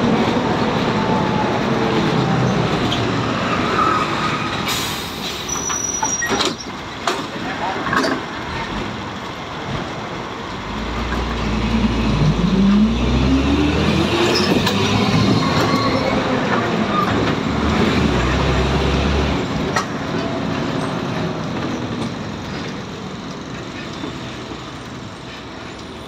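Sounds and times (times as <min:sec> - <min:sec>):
bus engine pulling away: 0:00.0 - 0:26.0
road noise: 0:00.0 - 0:26.0.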